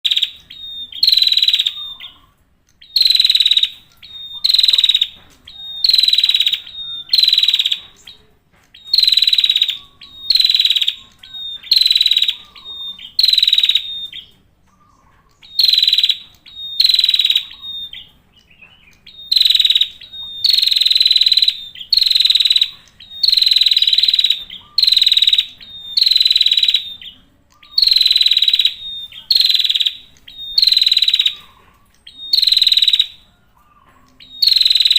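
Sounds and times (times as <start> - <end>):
bird singing high song bursts: 0.0 - 34.9.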